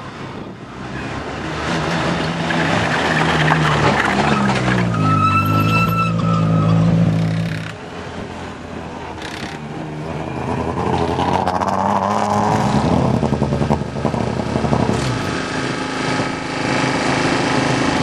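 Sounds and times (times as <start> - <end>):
rally car engines revving: 0.4 - 18.0.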